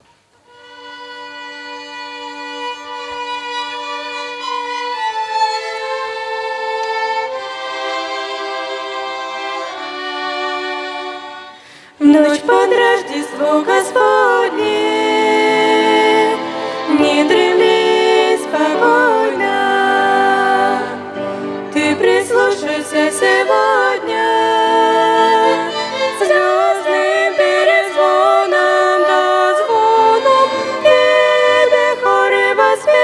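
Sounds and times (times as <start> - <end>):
violin ensemble playing: 0.4 - 33.0.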